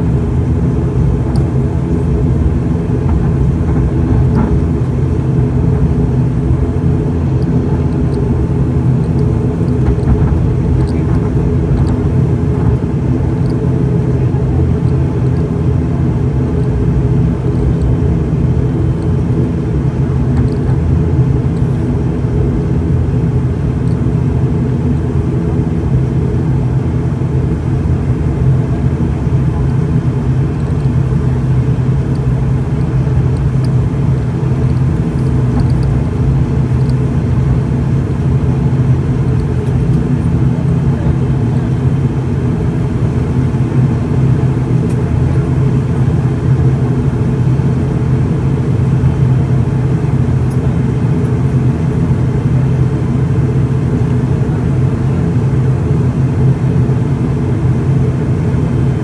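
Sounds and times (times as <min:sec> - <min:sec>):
turboprop engines droning: 0:00.0 - 0:59.0.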